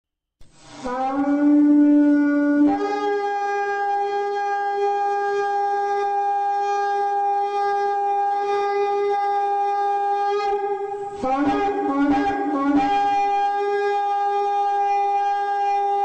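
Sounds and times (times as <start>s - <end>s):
shofar blast: 0.6s - 16.0s.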